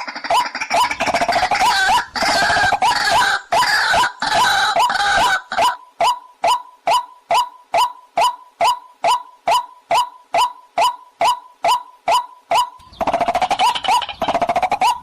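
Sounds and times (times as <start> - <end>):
bird repeating sharp call: 0.0 - 15.0
waterhen croaking calls: 0.0 - 15.0.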